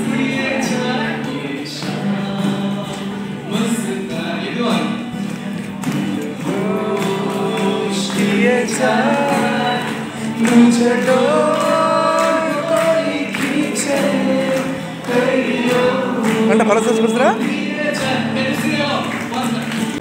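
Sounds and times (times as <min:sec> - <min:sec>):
person singing into a microphone: 0:00.0 - 0:05.4, 0:06.0 - 0:19.1
strummed acoustic guitar: 0:00.0 - 0:20.0.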